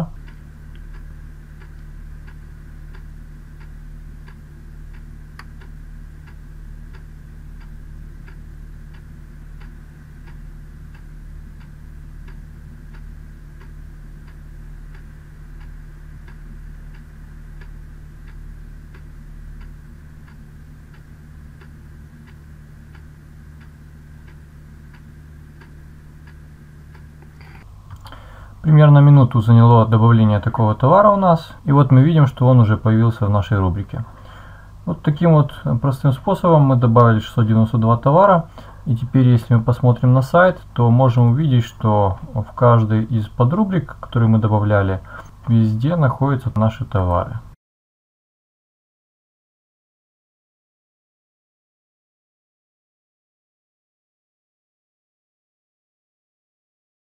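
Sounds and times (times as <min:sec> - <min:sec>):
even ticking: 0:00.0 - 0:47.5
low electrical hum: 0:00.0 - 0:47.6.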